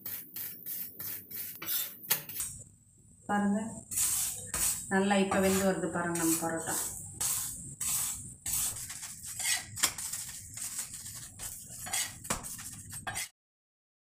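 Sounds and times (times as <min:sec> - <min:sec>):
spatula scraping on griddle: 0:00.0 - 0:02.5, 0:03.9 - 0:13.3
oil sizzling: 0:00.0 - 0:02.6, 0:03.8 - 0:13.3.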